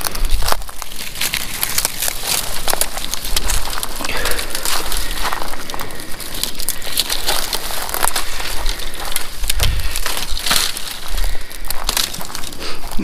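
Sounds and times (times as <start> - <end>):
campfire crackling and popping: 0.0 - 13.0
sticks being broken: 0.0 - 13.0.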